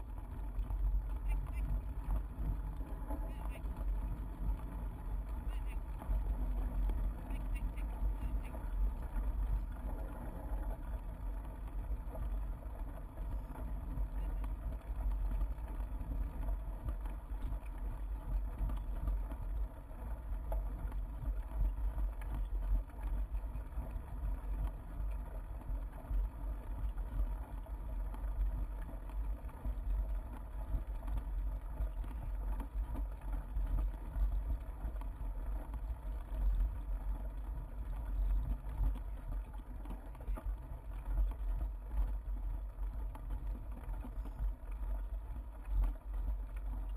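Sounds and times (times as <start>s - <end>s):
bicycle rolling over bumpy grass: 0.0s - 46.9s.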